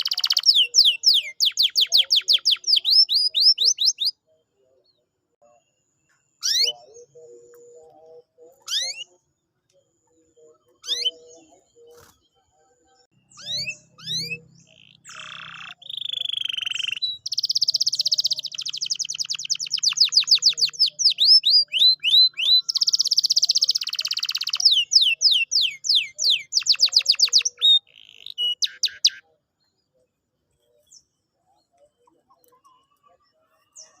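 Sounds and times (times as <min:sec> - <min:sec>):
canary singing: 0:00.0 - 0:05.6, 0:06.4 - 0:30.0.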